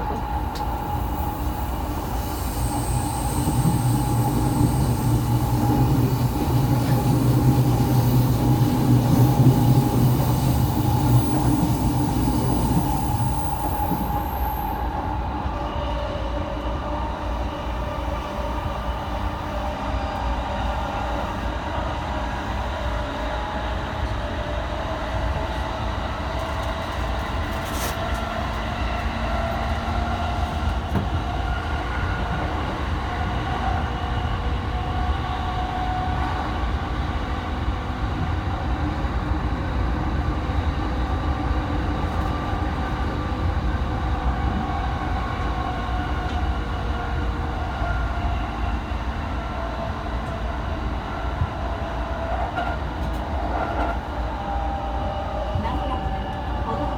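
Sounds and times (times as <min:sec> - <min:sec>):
train rail rumble: 0:00.0 - 0:56.9.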